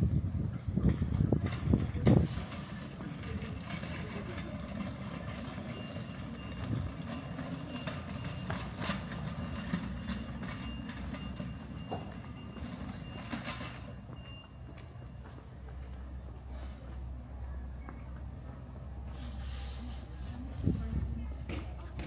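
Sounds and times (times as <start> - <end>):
city street rumble: 0.0 - 22.0.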